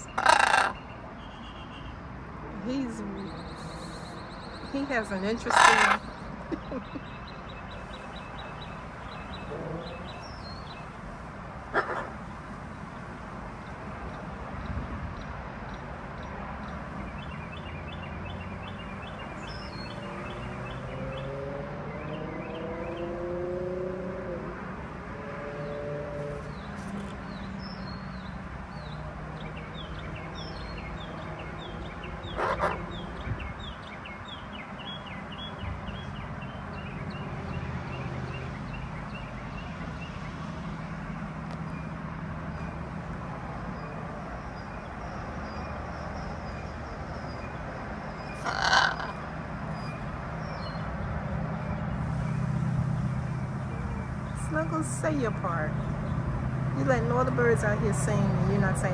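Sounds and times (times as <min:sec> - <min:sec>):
distant traffic rumble: 0:00.0 - 0:58.9
songbirds singing: 0:00.0 - 0:58.9.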